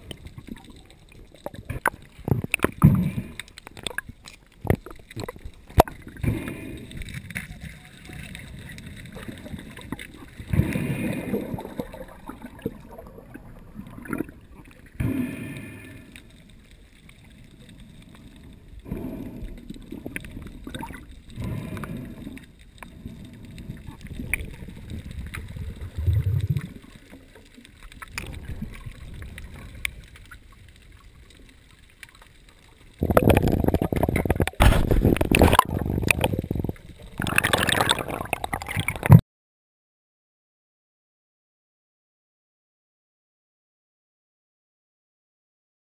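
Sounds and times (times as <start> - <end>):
muffled water gurgling: 0.0 - 39.2
water splashing and bubbling: 0.0 - 39.2.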